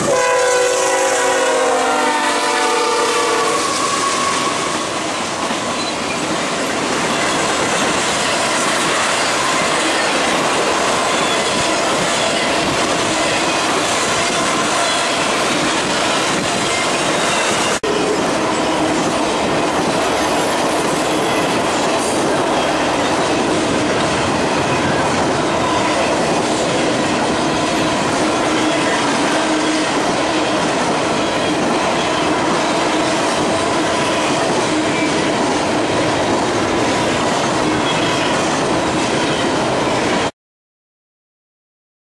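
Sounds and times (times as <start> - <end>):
freight train rolling past: 0.0 - 40.3
wheels squealing on rails: 0.0 - 40.3.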